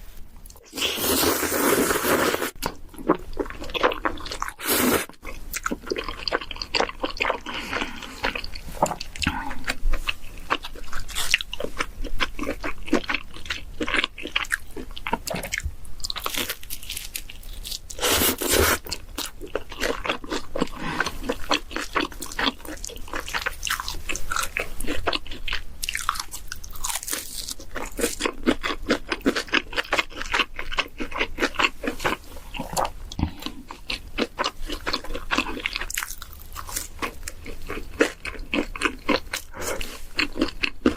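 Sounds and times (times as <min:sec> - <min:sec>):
chewing and crunching pizza: 0:00.5 - 0:40.9.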